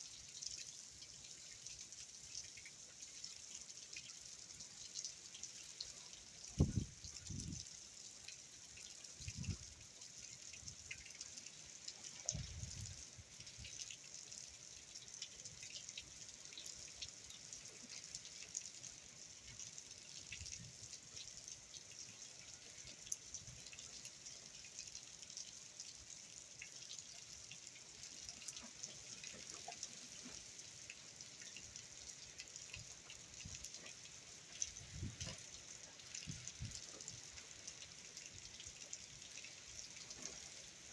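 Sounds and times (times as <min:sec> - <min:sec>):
drips and light patter: 0:00.0 - 0:40.9.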